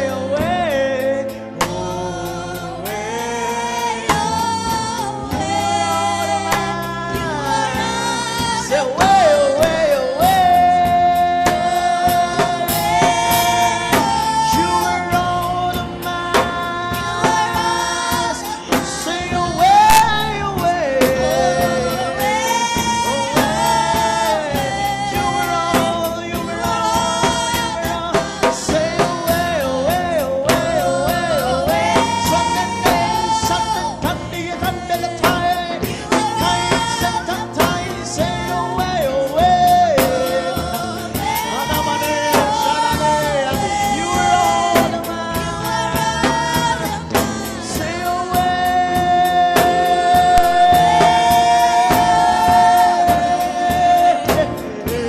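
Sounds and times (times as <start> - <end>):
band playing: 0.0 - 55.0
person singing gospel melody: 0.0 - 55.0
drum hits: 6.5 - 55.0.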